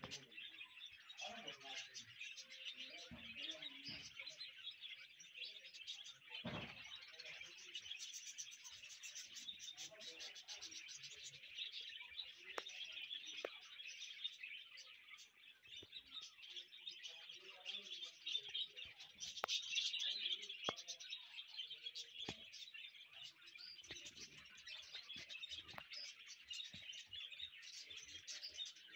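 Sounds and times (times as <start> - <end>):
budgerigars chattering and chirping: 0.0 - 28.9.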